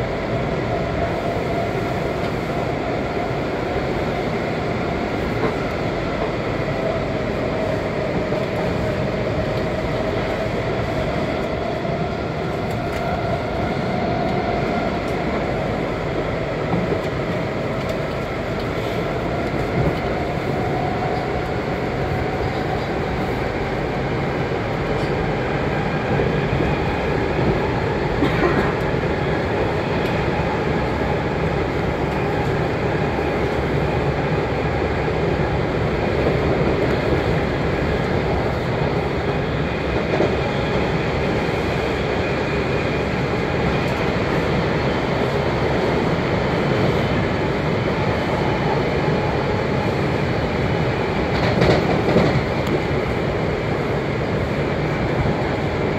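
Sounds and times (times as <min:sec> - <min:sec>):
wheels rumbling on rail: 0:00.0 - 0:55.9.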